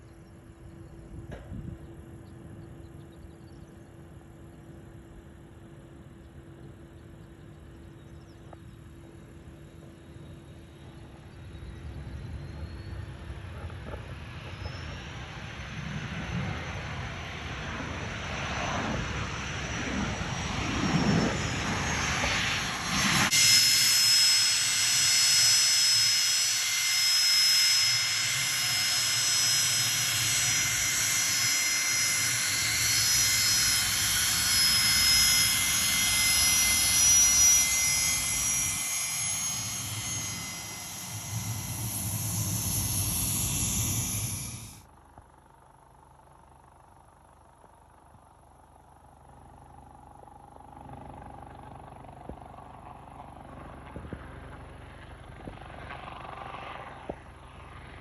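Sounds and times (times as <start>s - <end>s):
jet engines rushing: 0.0s - 44.8s, 51.1s - 58.0s
steady high jet whine: 0.0s - 58.0s.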